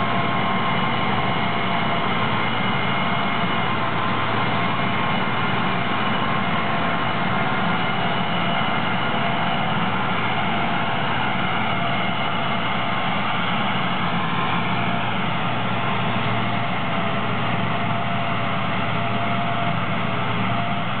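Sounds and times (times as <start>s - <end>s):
combine engine drone: 0.0s - 21.0s.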